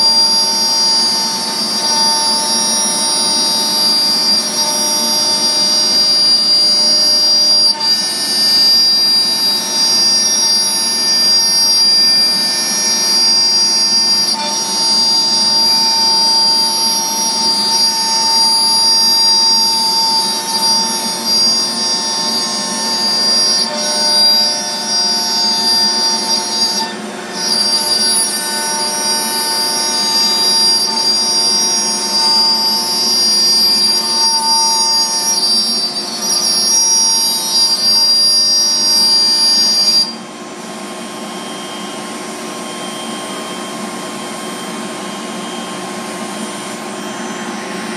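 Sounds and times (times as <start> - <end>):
router spindle whining: 0.0 - 47.9.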